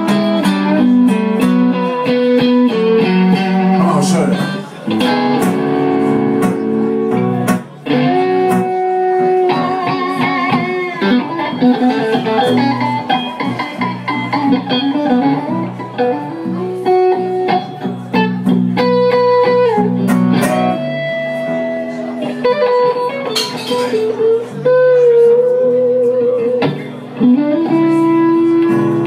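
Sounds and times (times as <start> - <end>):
acoustic guitar accompaniment: 0.0 - 29.0
electric guitar lead lines: 0.0 - 29.0.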